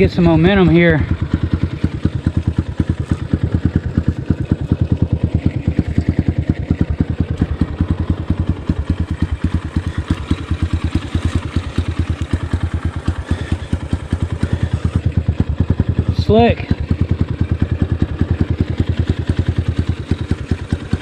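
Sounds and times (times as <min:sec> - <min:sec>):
dirt bike engine at low revs: 0:00.0 - 0:21.0.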